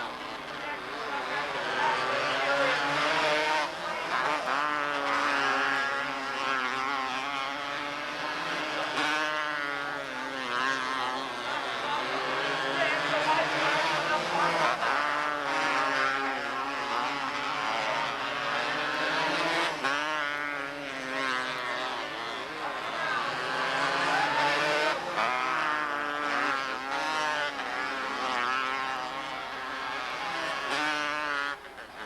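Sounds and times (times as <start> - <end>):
race car engines revving and passing: 0.0 - 32.0.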